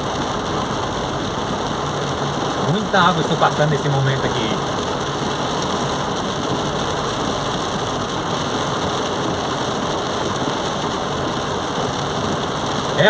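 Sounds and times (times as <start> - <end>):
car engine and tyres: 0.0 - 13.0
heavy rain on a car: 0.0 - 13.0.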